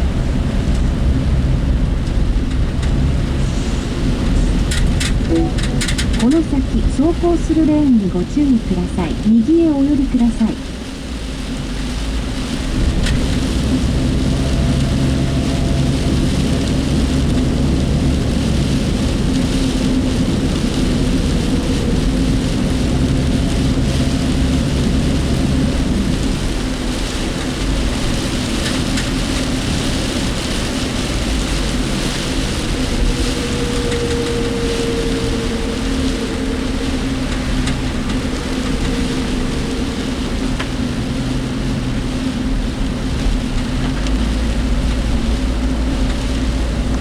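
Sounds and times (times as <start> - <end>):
engine and road noise hum: 0.0 - 47.0
rain beating on car: 0.0 - 47.0.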